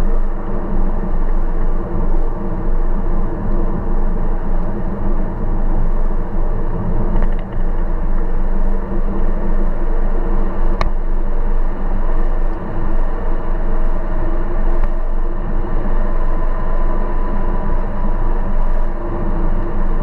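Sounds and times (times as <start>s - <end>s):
car engine running: 0.0s - 20.0s
road rumble: 0.0s - 20.0s.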